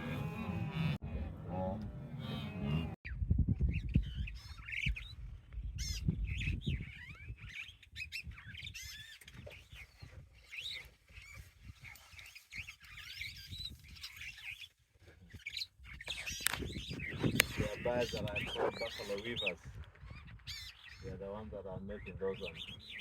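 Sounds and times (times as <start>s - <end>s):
small birds chirping and chattering: 0.0s - 23.0s.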